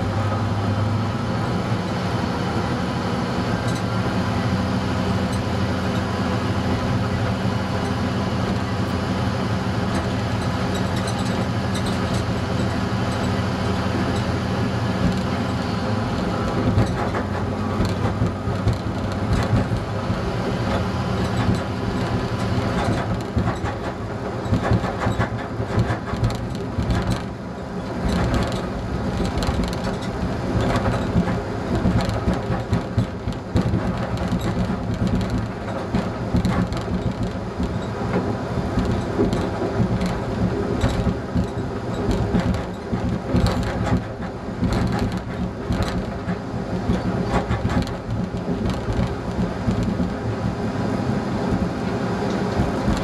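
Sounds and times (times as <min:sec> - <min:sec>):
diesel engine drone: 0:00.0 - 0:53.0
wheel rumble: 0:00.0 - 0:53.0
wheels clicking over track: 0:06.7 - 0:53.0.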